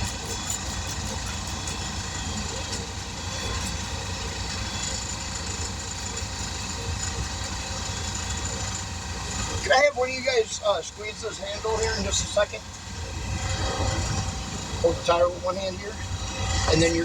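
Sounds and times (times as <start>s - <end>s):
high whining tones: 0.0s - 17.0s
motor hum: 0.0s - 17.0s.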